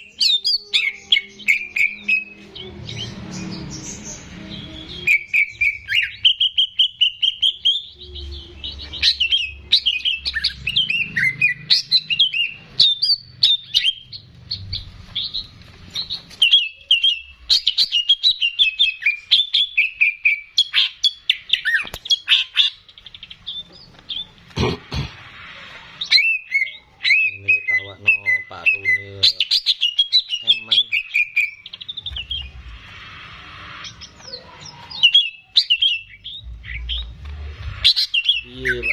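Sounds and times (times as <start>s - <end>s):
bird singing rapid chirps: 0.0s - 24.7s, 26.0s - 38.9s.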